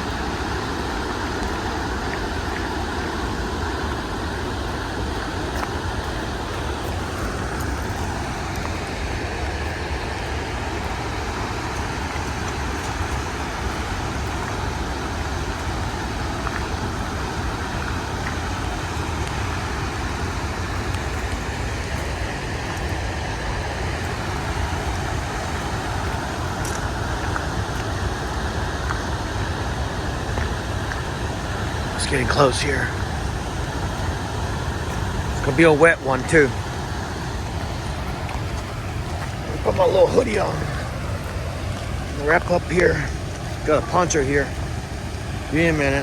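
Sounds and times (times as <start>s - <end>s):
large waterfall rushing: 0.0s - 46.0s.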